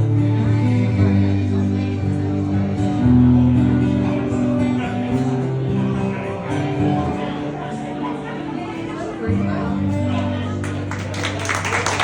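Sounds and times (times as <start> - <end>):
acoustic guitar strumming chords: 0.0 - 11.1.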